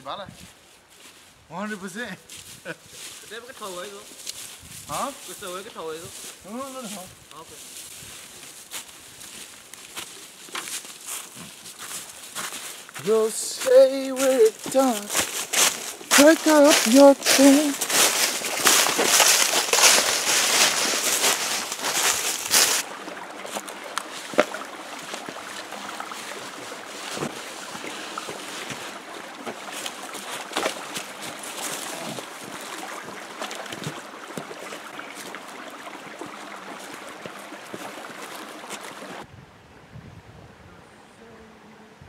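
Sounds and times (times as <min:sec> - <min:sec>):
footsteps crunching dry leaves: 0:00.4 - 0:01.4, 0:02.2 - 0:39.2
creek running over rocks: 0:01.8 - 0:39.3.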